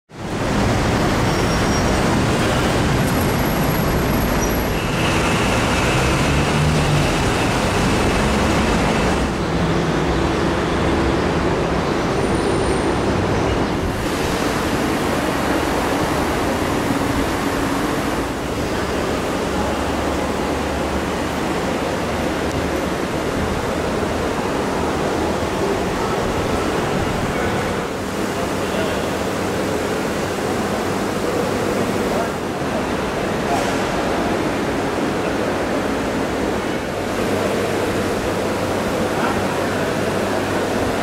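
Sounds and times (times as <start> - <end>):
road traffic: 0.1 - 41.0.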